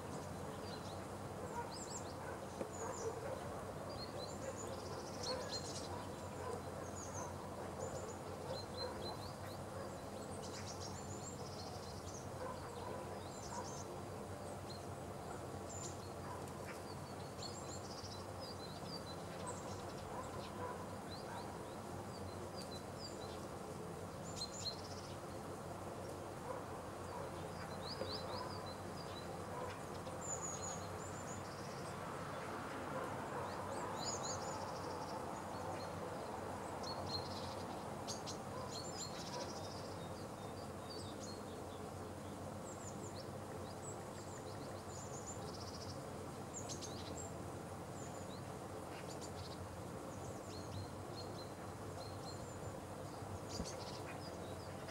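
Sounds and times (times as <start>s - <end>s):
songbirds chirping: 0.0s - 54.9s
steady background noise: 0.0s - 54.9s.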